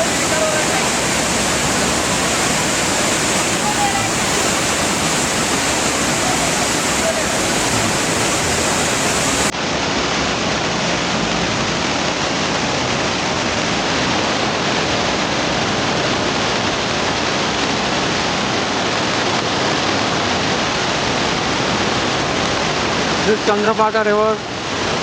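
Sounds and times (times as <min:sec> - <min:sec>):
river rushing white water: 0:00.0 - 0:25.0.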